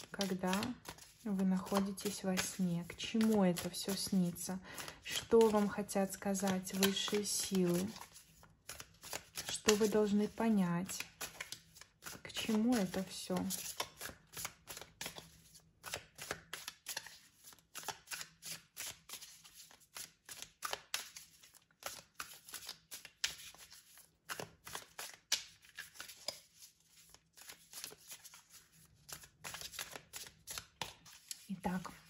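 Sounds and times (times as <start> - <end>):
cards being shuffled: 0.0 - 32.0.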